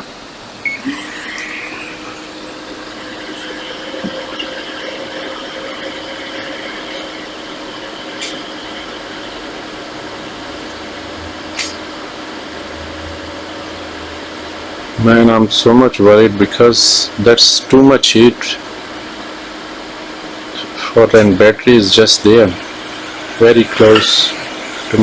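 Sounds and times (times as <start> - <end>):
hot air station blowing: 0.0 - 25.0.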